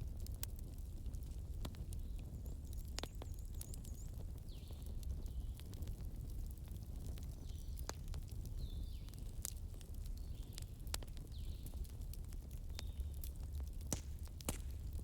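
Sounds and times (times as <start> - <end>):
fire low rumble: 0.0 - 15.0
wood fire crackling: 0.0 - 15.0.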